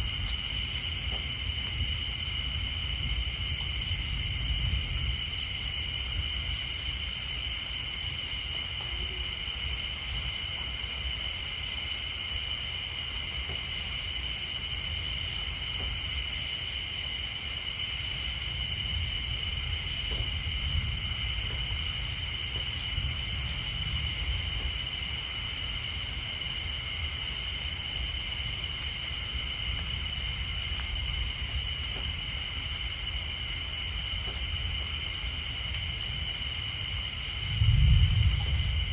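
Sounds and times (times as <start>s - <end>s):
insects and frogs trilling: 0.0s - 38.9s.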